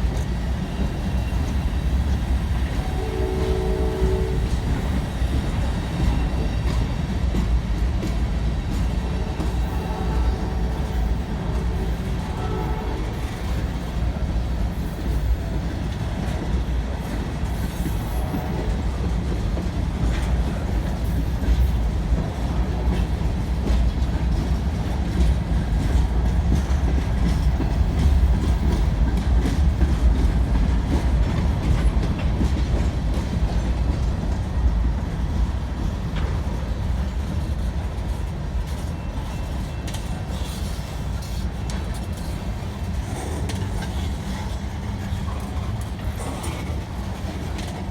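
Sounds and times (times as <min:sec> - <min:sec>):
freight train rumbling past: 0:00.0 - 0:47.9
steel wheels clattering over rail joints: 0:00.0 - 0:47.9.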